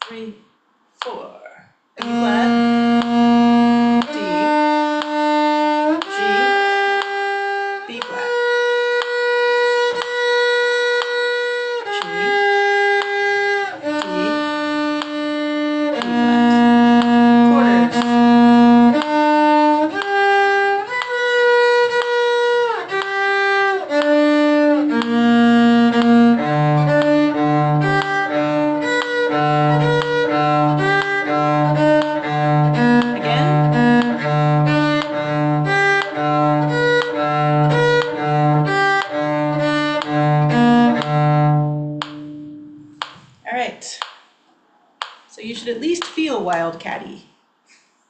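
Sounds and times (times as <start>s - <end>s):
violin playing arpeggio exercise: 2.0s - 43.2s.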